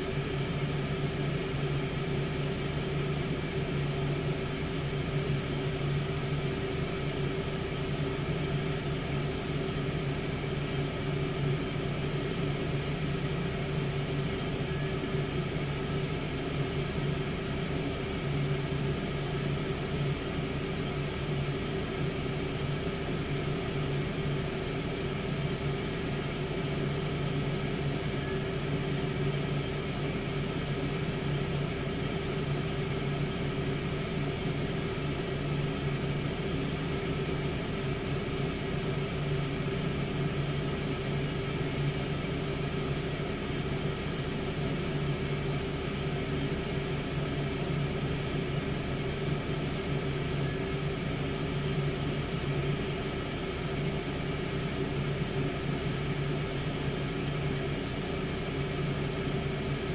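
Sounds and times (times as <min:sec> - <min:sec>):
air fryer humming: 0:00.0 - 0:59.9.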